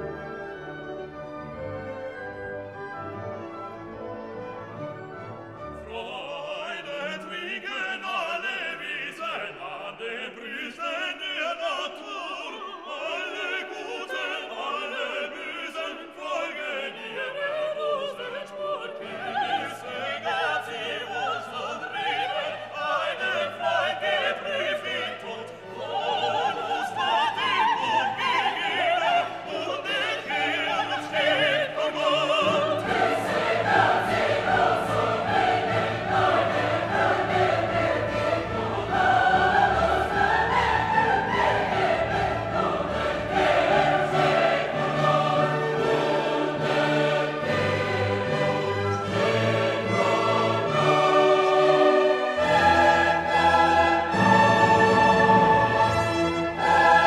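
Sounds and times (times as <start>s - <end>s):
operatic singing over orchestra: 0.0s - 57.0s.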